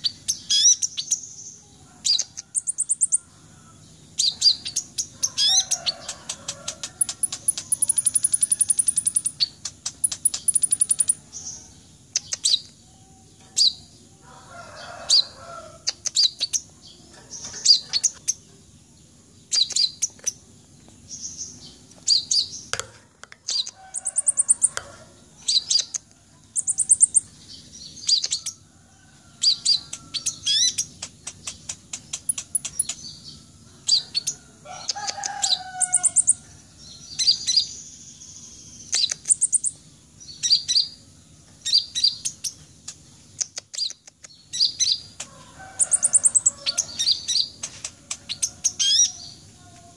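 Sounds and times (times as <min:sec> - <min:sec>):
bird twittering trills and chirps: 0:00.0 - 0:49.9.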